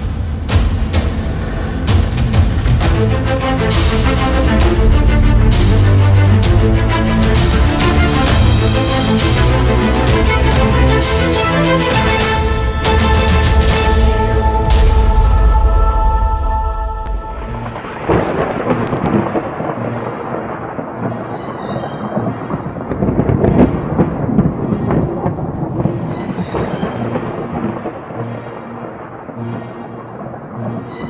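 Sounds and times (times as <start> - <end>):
background music: 0.0 - 31.0
rain: 0.0 - 31.0
rumbling thunder: 0.0 - 31.0.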